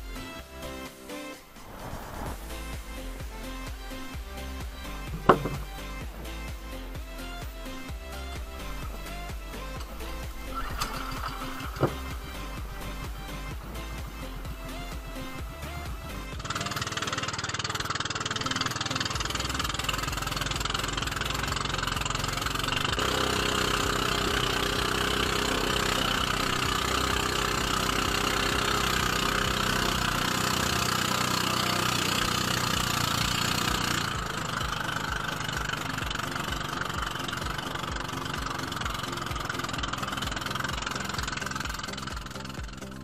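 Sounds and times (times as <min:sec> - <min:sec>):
boat engine running: 0:01.7 - 0:43.0.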